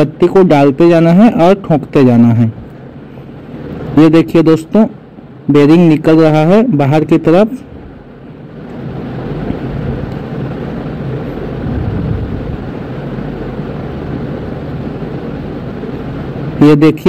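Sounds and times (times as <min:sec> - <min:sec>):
steady low rumbling: 0:00.0 - 0:16.8.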